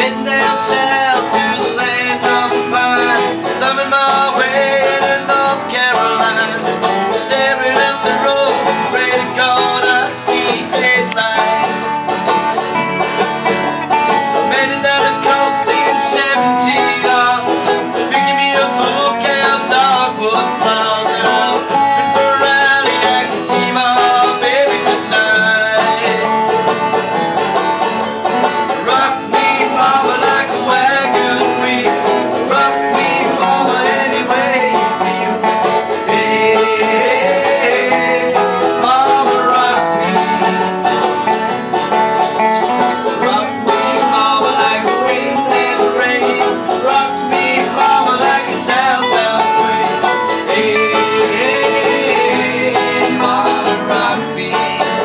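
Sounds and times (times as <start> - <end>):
banjo: 0.0 - 55.0
resonator guitar: 0.0 - 55.0.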